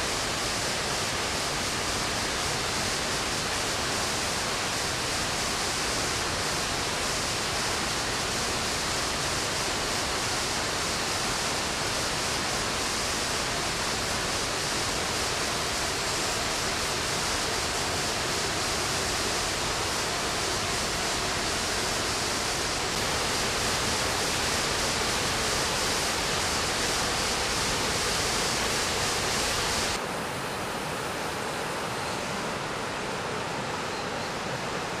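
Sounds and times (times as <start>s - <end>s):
waterfall and stream rushing: 0.0s - 35.0s.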